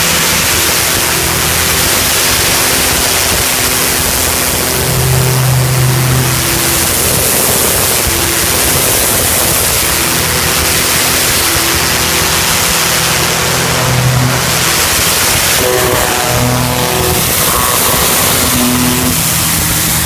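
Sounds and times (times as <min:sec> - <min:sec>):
low machine hum: 0:00.0 - 0:20.0
pressure washer water jet hiss: 0:00.0 - 0:20.0.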